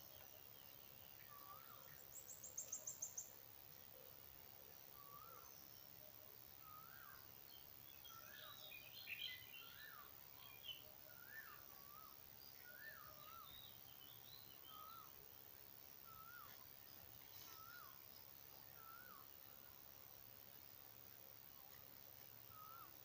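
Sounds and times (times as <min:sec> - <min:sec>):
small birds twittering: 0:00.0 - 0:23.0.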